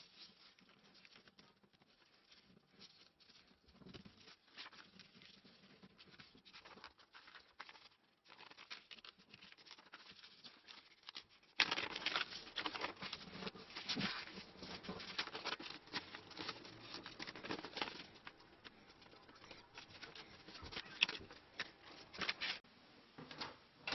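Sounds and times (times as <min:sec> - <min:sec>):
paper crinkling: 0:00.0 - 0:22.6.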